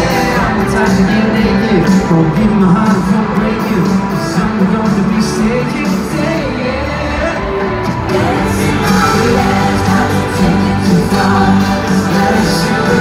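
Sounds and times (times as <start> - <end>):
live pop band playing: 0.0 - 13.0
person singing: 0.0 - 13.0.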